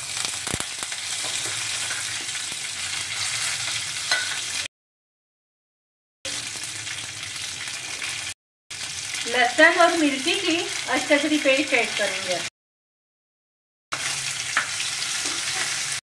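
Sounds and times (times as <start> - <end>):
leaves and seeds sizzling in oil: 0.0 - 4.7, 6.3 - 12.5, 14.0 - 16.0.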